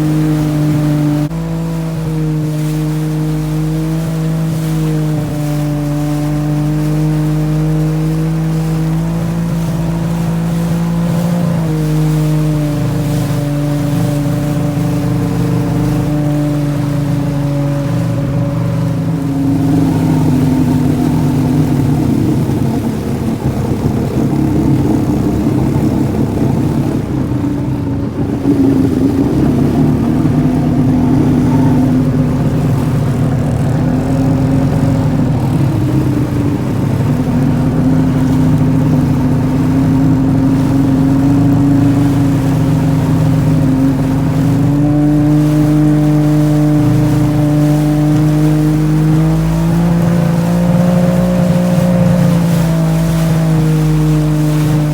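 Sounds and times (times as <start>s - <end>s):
jet ski engine revving: 0.0s - 54.9s.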